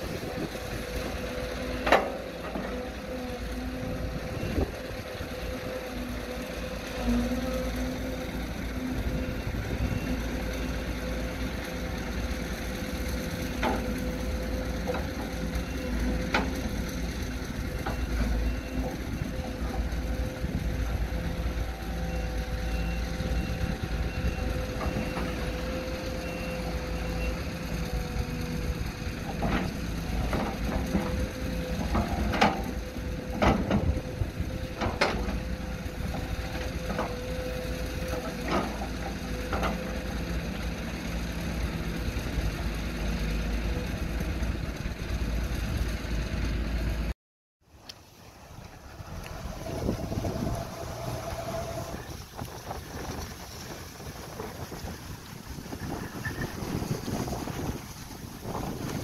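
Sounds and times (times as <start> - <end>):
heavy machine engine whining: 0.0 - 47.1, 48.4 - 59.0.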